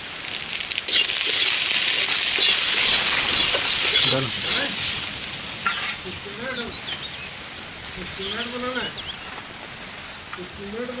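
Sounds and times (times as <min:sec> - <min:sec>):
beans sizzling in hot oil: 0:00.0 - 0:09.6.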